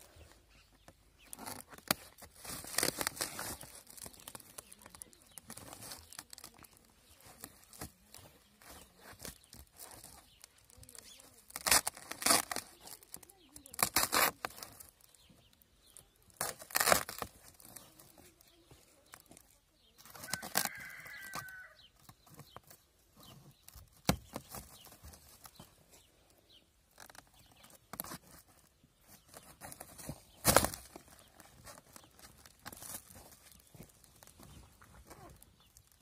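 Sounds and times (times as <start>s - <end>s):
scissors cutting plastic: 1.3s - 15.2s, 15.9s - 25.7s, 26.9s - 36.0s.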